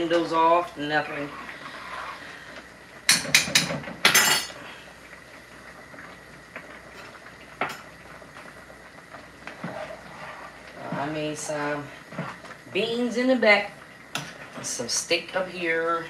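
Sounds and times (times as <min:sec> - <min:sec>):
steak simmering: 0:00.0 - 0:16.0.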